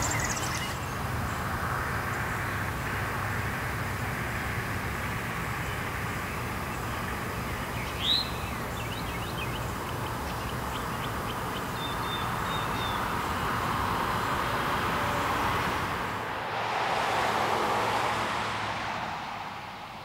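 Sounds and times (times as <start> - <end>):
distant road traffic: 0.0 - 20.0.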